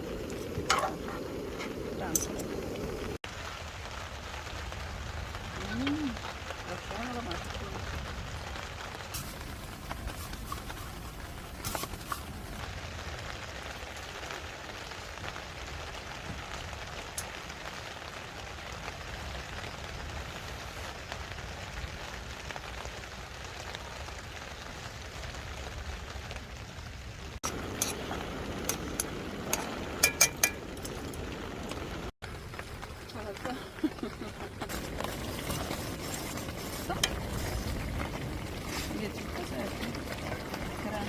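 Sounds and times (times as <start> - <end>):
rain hissing: 0.0 - 41.0.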